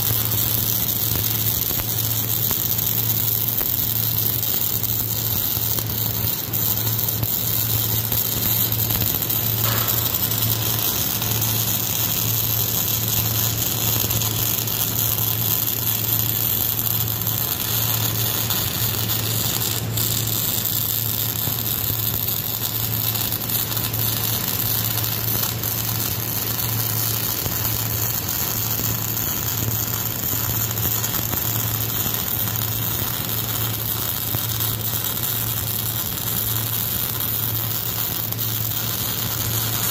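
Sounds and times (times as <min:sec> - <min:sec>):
welding arc on steel: 0:00.0 - 0:39.9.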